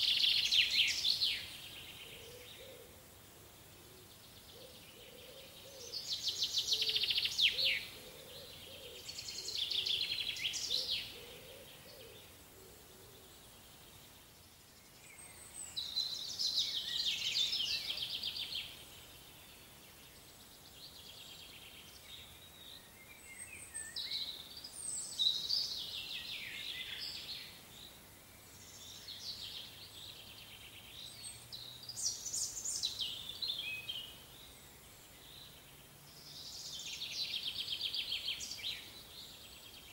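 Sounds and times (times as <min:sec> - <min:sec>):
faint forest background: 0:00.0 - 0:39.9.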